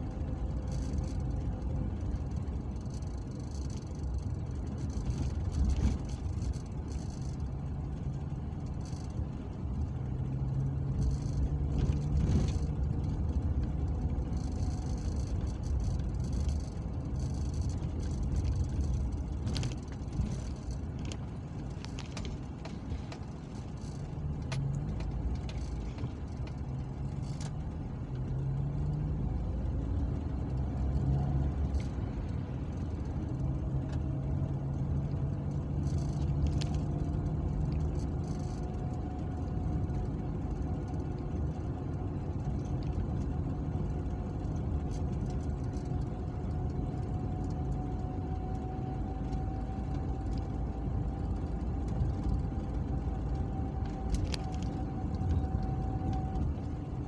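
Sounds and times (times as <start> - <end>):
car engine and road noise: 0.0 - 57.0
light clicks and rattles: 0.0 - 57.0.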